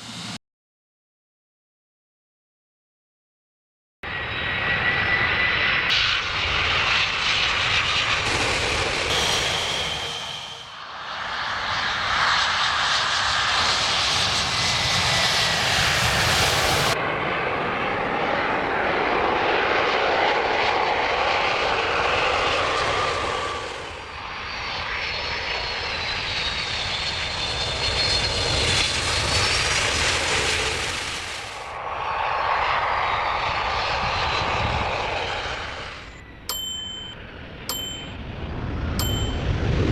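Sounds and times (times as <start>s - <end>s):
airplane engines roaring: 0.0s - 0.4s, 4.0s - 39.9s
high jet engine whine: 0.0s - 0.4s, 4.0s - 39.9s.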